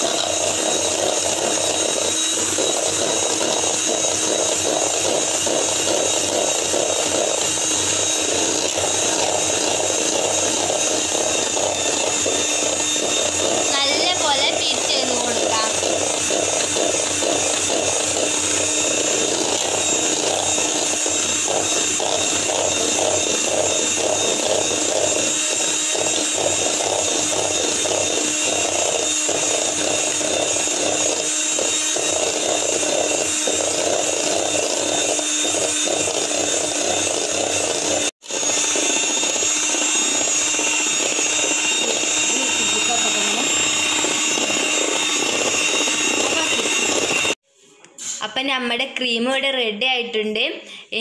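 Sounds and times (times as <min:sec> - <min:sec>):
electric hand mixer running: 0:00.0 - 0:47.4.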